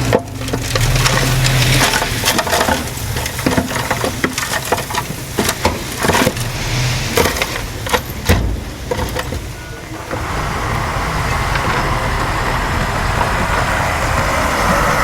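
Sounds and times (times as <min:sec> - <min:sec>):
bulldozer diesel engine under load: 0:00.0 - 0:15.0
steel tracks clanking: 0:00.0 - 0:15.0.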